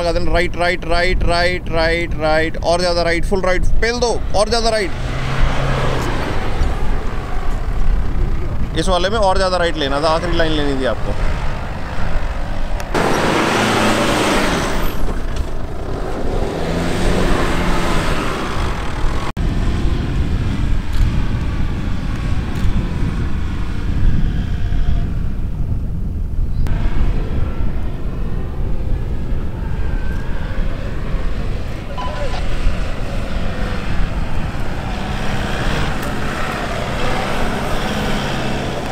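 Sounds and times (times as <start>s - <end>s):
suv engines running hard: 0.0s - 38.9s.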